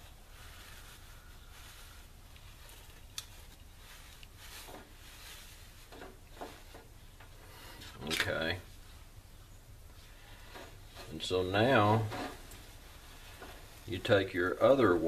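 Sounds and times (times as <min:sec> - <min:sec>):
soft crinkles of scouring pad: 0:00.0 - 0:09.1, 0:09.9 - 0:15.0.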